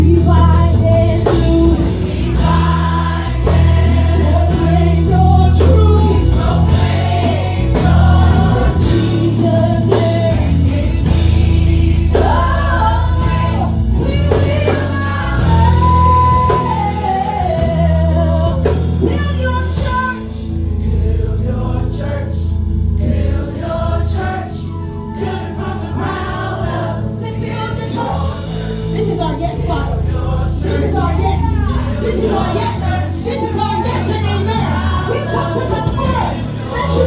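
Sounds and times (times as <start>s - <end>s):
band with sustained bass: 0.0s - 37.0s
voices singing together: 0.0s - 37.0s.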